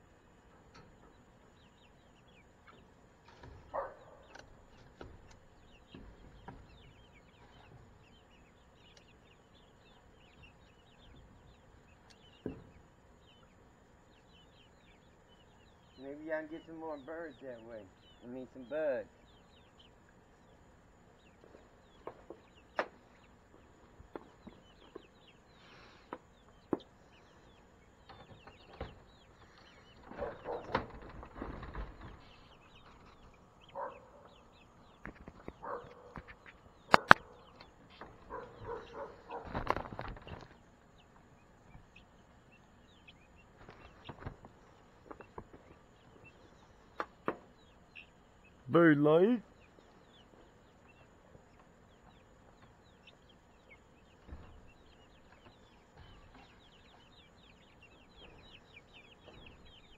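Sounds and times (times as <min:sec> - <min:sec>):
chicks peeping and clucking: 0:00.0 - 0:59.9.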